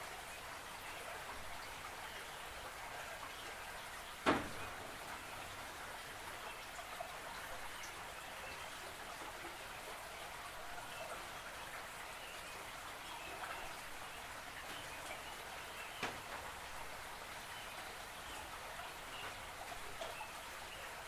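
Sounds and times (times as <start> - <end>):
creek water babbling: 0.0 - 21.0.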